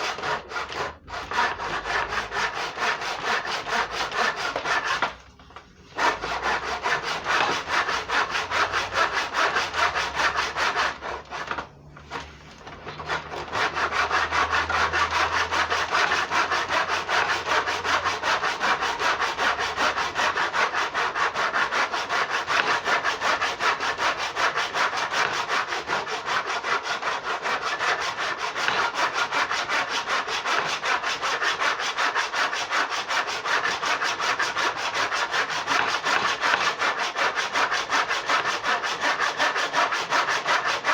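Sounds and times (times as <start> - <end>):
hand saw cutting: 0.0 - 40.9.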